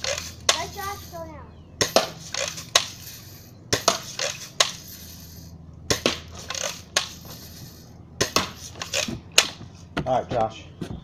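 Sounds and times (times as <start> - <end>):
sharp metallic clicks and clanks: 0.0 - 9.6.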